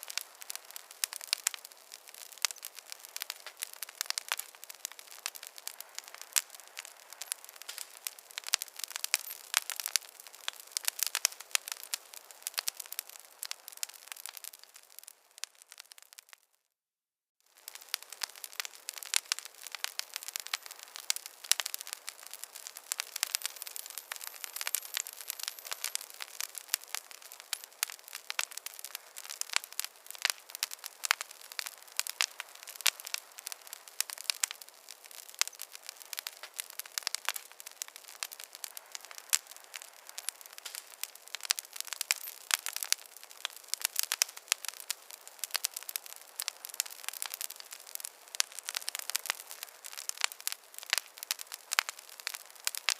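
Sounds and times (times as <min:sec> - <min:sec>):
wood fire crackling: 0:00.0 - 0:16.4, 0:17.5 - 0:52.9.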